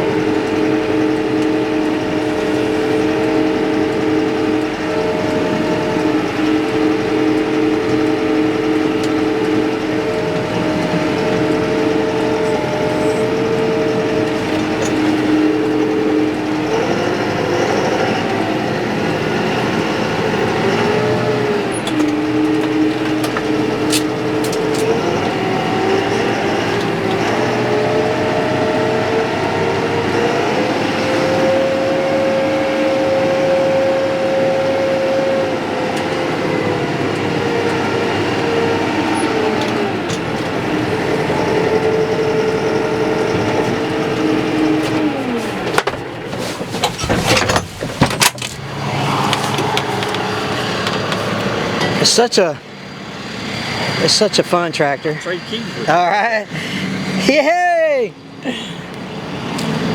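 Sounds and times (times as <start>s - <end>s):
vehicle engine revving: 0.0s - 57.5s, 58.2s - 59.9s.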